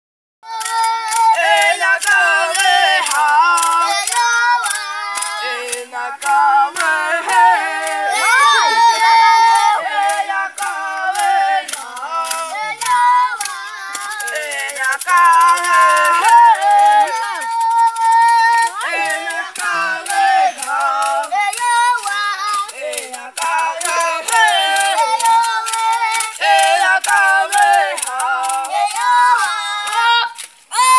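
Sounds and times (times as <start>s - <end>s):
children singing a chant: 0.4s - 30.9s
sharp percussive beat: 0.5s - 30.0s.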